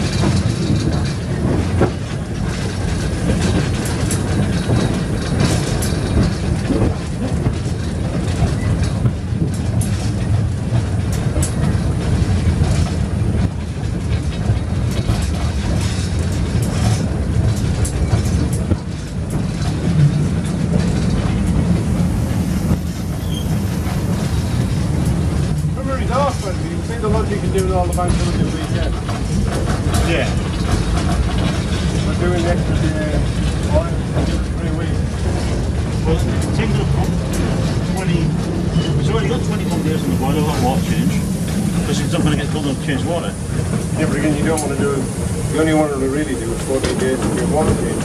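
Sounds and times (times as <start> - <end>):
sharp clanks and clicks: 0.0 - 48.0
steam locomotive rumble: 0.0 - 48.0.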